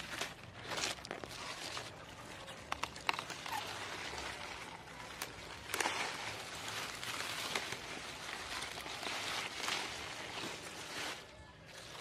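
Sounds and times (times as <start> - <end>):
leaves rustling by hand: 0.0 - 12.0.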